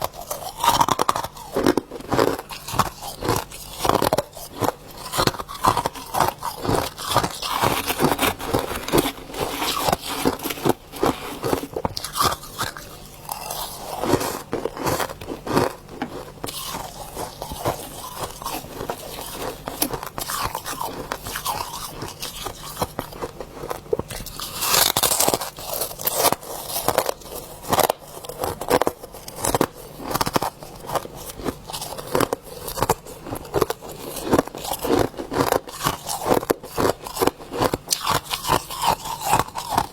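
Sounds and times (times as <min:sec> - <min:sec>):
frost being crunched and scraped: 0:00.0 - 0:39.9.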